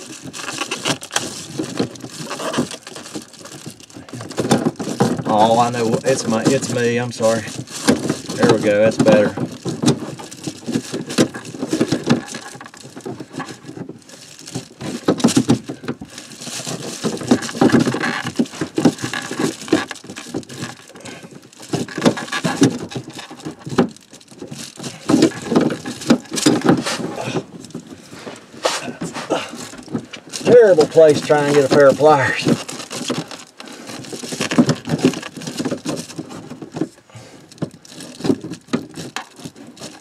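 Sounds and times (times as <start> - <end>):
hands rustling and scraping: 0.0 - 40.0.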